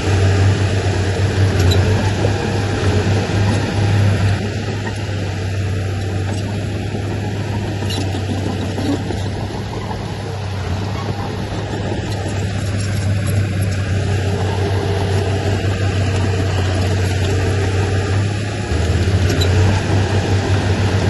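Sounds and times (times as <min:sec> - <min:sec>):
heavy machinery diesel engine drone: 0:00.0 - 0:21.0.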